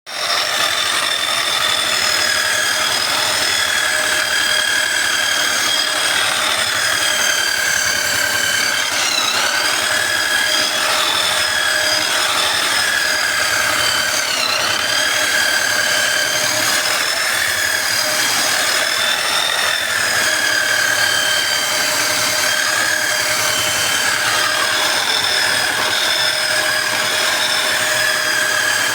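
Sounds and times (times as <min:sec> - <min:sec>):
power tool motor whine: 0:00.1 - 0:28.9.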